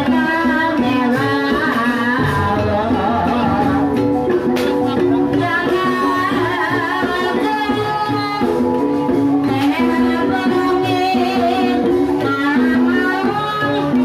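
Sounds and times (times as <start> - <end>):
steady drum beats: 0.0 - 14.0.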